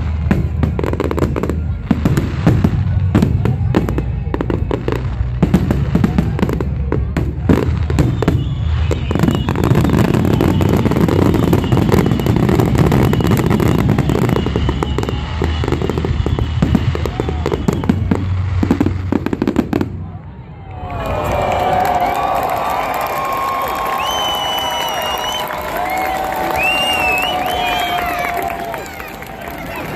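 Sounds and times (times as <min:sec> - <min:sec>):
fireworks bangs and crackling: 0:00.0 - 0:29.9.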